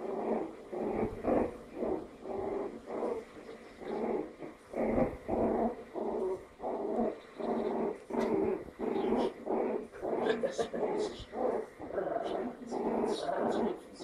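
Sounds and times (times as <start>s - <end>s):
puppy growling: 0.0s - 14.0s.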